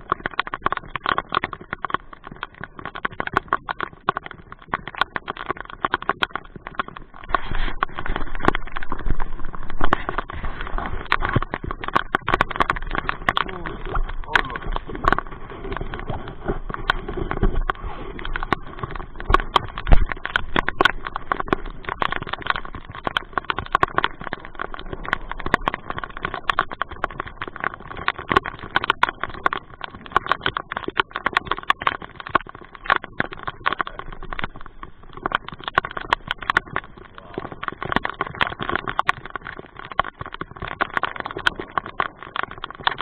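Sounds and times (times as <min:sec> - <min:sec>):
rain tapping on plastic cover: 0:00.0 - 0:43.0.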